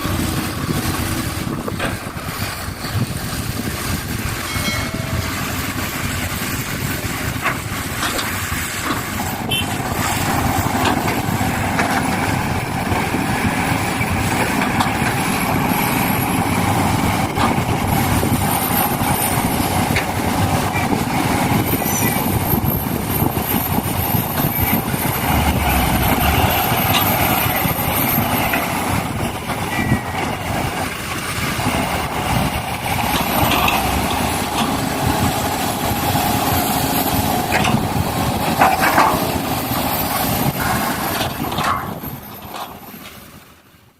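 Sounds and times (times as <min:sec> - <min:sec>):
excavator running: 0:00.0 - 0:43.9.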